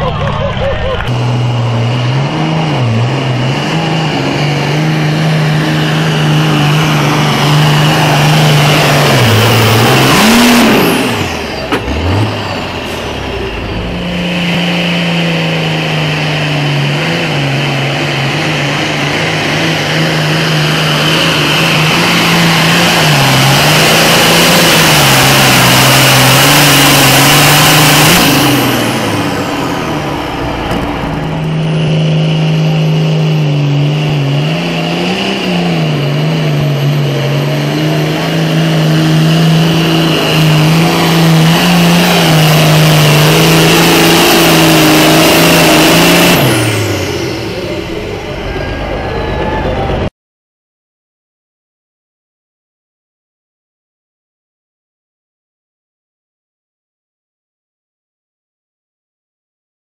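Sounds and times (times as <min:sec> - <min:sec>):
tractor diesel engine at full throttle: 0:00.0 - 0:50.1.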